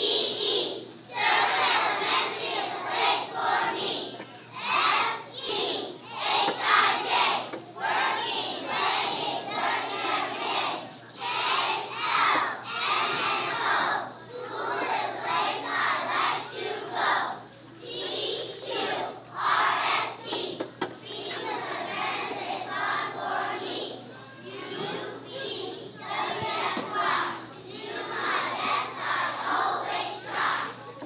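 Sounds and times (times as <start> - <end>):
children chanting in unison: 0.0 - 30.8.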